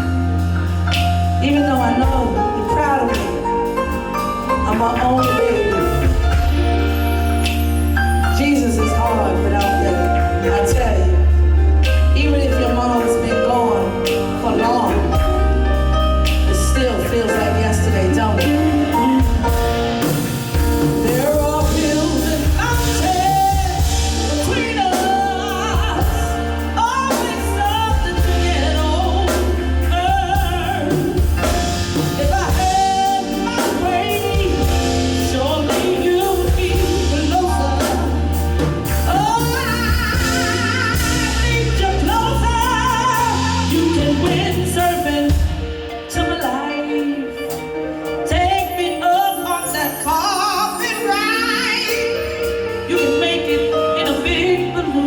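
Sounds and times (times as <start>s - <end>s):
steady bass: 0.0s - 46.6s
live band playing soul ballad: 0.0s - 55.0s.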